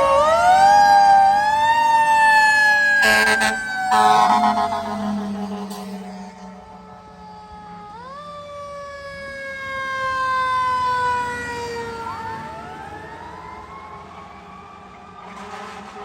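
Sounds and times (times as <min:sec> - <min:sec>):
mechanical siren wailing: 0:00.0 - 0:14.0.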